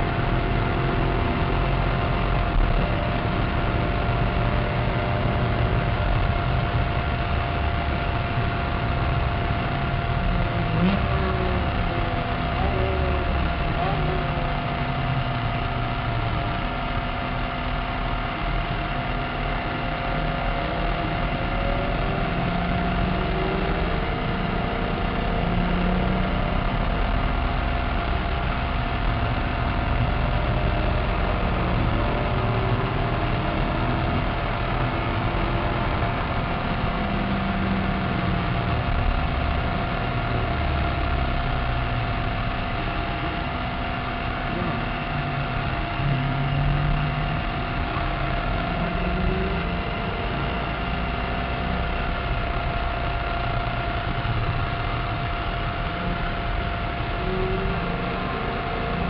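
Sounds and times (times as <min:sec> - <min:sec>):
car engine revving: 0:00.0 - 0:59.0
road noise inside car: 0:00.0 - 0:59.0.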